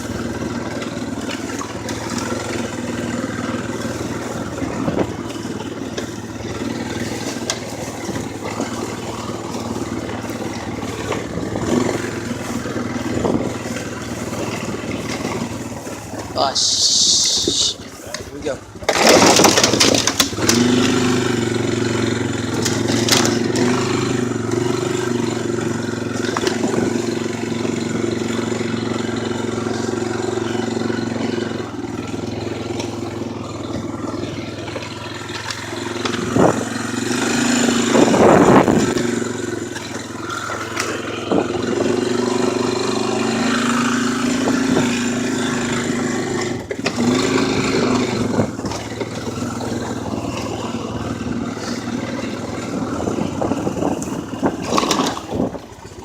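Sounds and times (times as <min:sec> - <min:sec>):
atv engine running: 0:00.0 - 0:56.0
rough rattle: 0:00.0 - 0:56.0.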